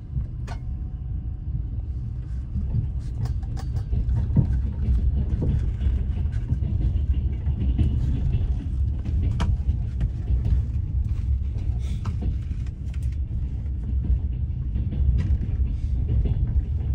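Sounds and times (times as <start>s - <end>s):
train rumbling on rails: 0.0s - 16.9s
sharp clicks and knocks: 2.5s - 16.9s.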